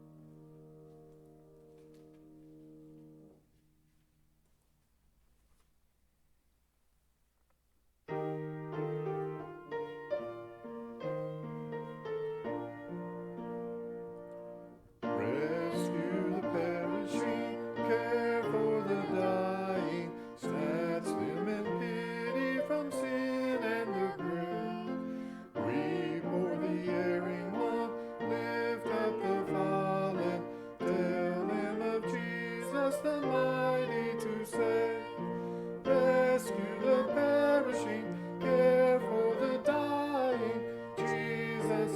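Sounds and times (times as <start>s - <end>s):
piano chords: 0.0s - 3.6s, 8.1s - 41.9s.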